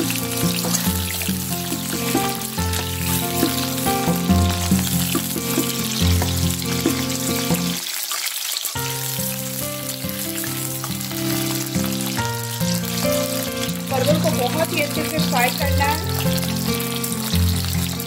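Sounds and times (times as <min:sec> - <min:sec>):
background music: 0:00.0 - 0:07.8, 0:08.8 - 0:18.0
vegetables sizzling in oil: 0:00.0 - 0:18.0.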